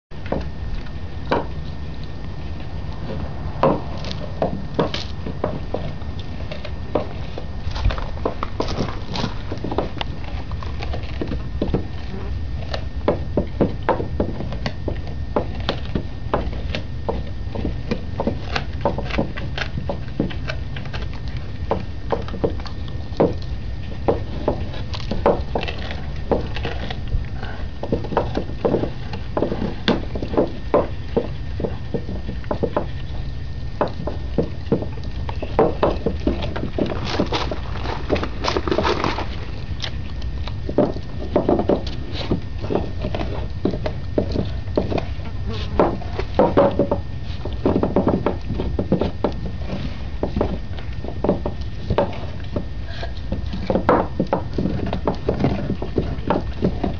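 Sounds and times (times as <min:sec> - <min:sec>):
dog chewing bone: 0:00.1 - 0:56.9.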